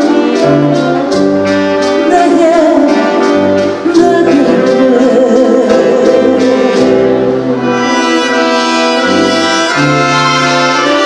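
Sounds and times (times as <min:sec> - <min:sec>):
orchestra brass chords: 0:00.0 - 0:11.0.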